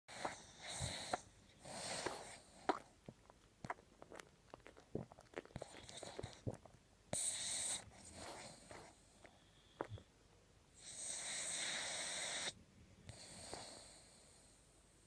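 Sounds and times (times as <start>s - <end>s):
puppy snoring: 0.1s - 3.0s, 3.6s - 10.1s, 10.8s - 14.6s.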